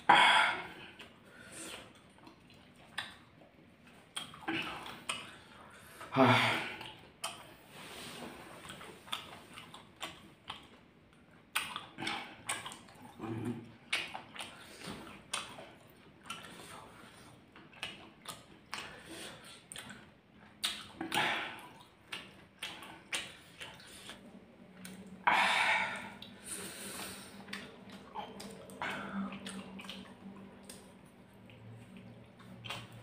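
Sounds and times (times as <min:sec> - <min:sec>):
wet chewing crunches: 0:00.8 - 0:05.8, 0:06.8 - 0:25.2, 0:26.2 - 0:33.0.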